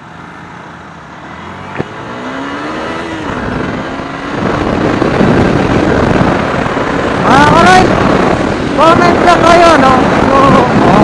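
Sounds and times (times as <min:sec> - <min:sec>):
motorcycle engine: 0:00.0 - 0:11.0
wind rushing over microphone: 0:01.3 - 0:11.0.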